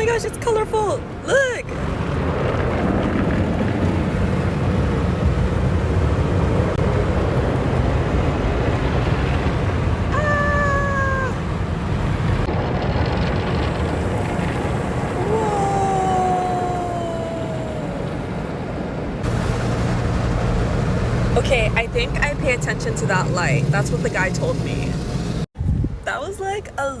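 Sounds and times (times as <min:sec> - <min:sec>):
car wash spray and scrubbing: 0:01.0 - 0:15.3, 0:18.0 - 0:25.5.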